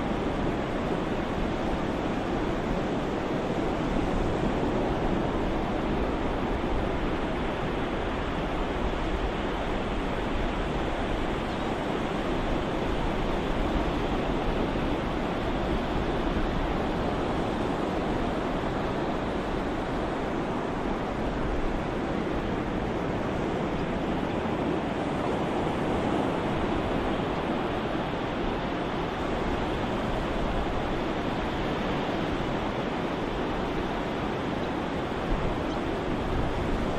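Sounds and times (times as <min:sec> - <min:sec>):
ocean surf washing: 0:00.0 - 0:36.9.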